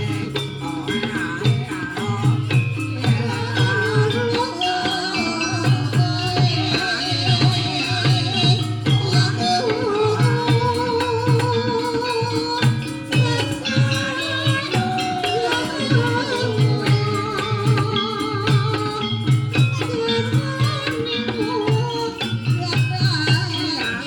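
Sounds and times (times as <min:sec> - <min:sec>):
struck and shaken percussion: 0:00.0 - 0:24.0
wavering melody: 0:00.0 - 0:24.0.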